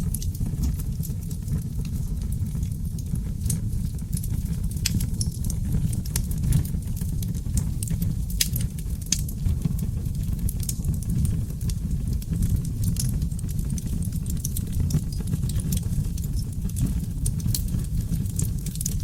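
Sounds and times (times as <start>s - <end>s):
wood fire burning in fireplace: 0.0s - 19.0s.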